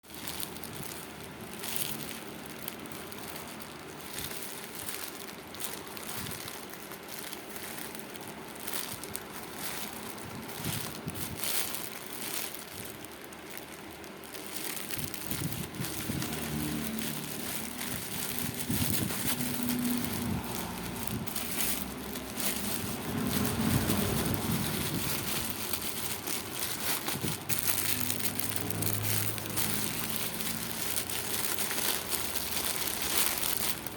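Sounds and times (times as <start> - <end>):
packaging crinkling and rustling: 0.0 - 33.9.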